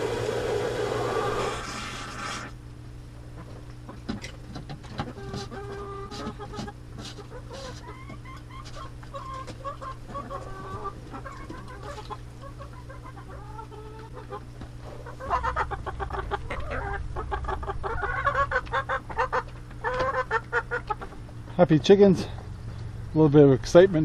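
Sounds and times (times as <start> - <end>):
hens clucking: 3.3 - 23.0.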